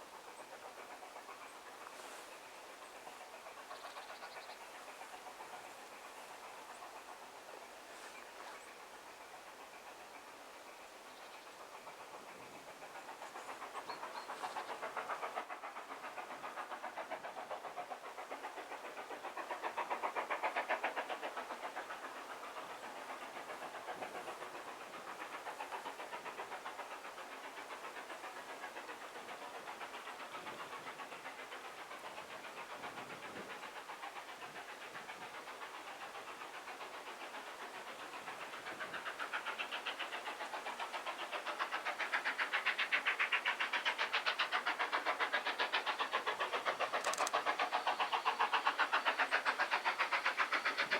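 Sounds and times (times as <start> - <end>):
distant train running: 0.0 - 50.9.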